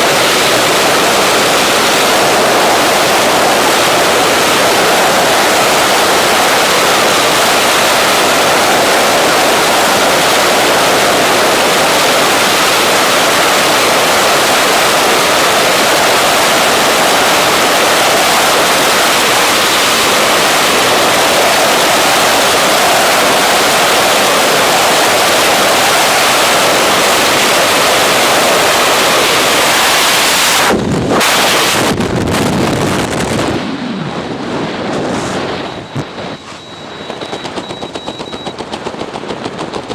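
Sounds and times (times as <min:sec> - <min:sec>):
freefall wind rushing over microphone: 0:00.0 - 0:39.9.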